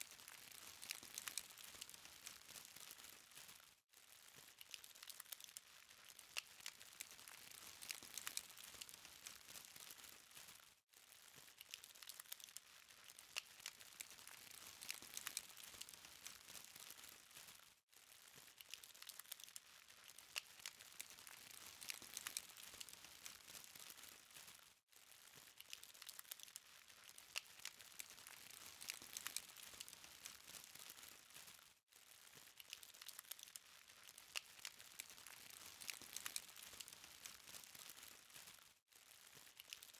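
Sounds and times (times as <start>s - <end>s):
charcoal fire crackling: 0.0s - 39.9s.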